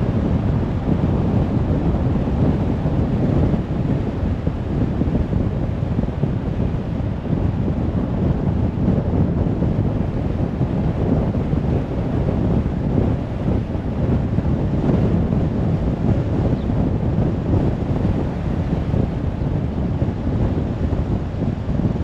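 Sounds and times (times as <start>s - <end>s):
wind noise: 0.0s - 22.0s.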